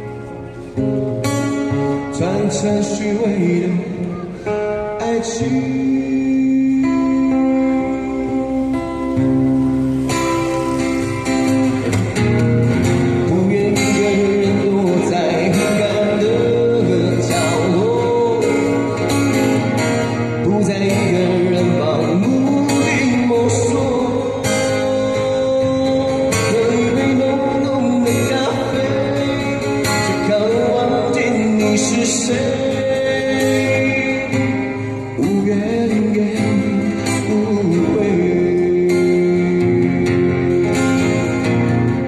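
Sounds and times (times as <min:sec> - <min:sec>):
acoustic guitar: 0:00.0 - 0:42.0
person singing love ballad: 0:02.1 - 0:08.8, 0:13.1 - 0:42.0.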